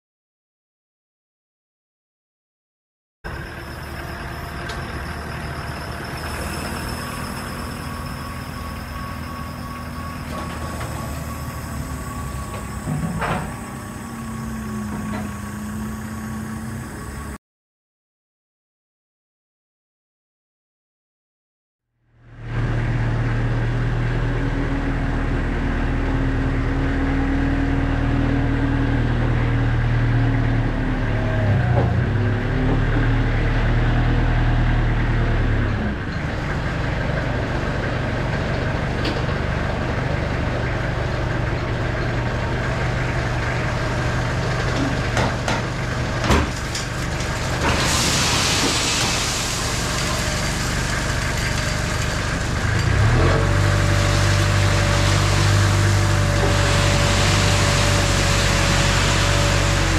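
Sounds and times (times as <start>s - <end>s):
forklift engine running: 3.3s - 17.4s, 22.2s - 59.9s.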